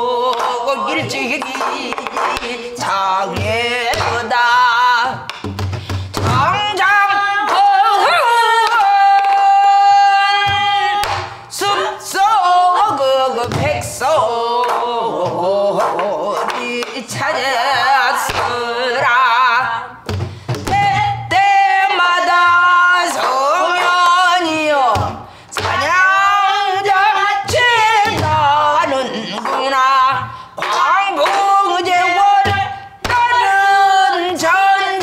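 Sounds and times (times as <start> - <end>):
woman singing with held notes: 0.0 - 5.3, 6.2 - 35.0.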